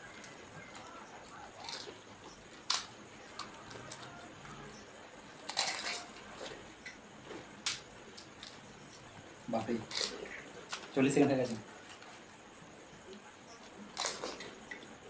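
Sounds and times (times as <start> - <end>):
crunching and squishing food: 0.0 - 15.0.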